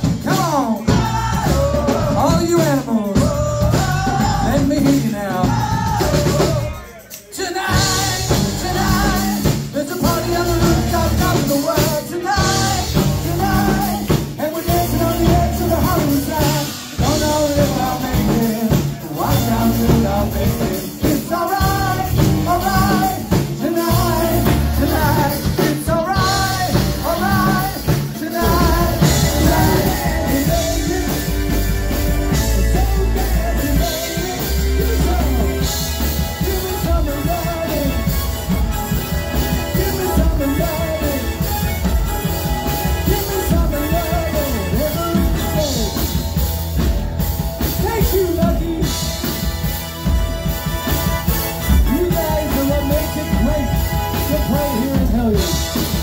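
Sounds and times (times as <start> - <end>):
lead singer singing: 0.0 - 46.6, 47.6 - 56.0
live rock band playing: 0.0 - 56.0.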